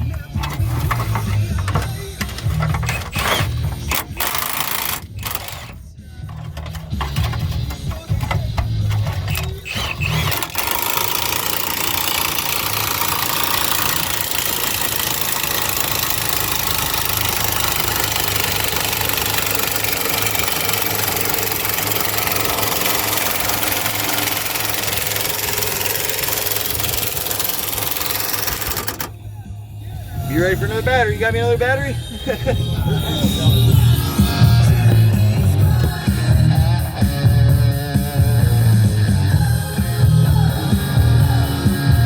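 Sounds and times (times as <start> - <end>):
power tool grinding: 0.0 - 29.2, 30.4 - 37.4.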